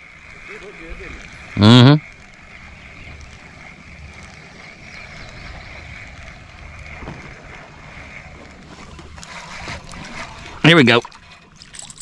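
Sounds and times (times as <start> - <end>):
faint moving water: 0.0 - 12.0
wind buffeting microphone: 0.2 - 12.0.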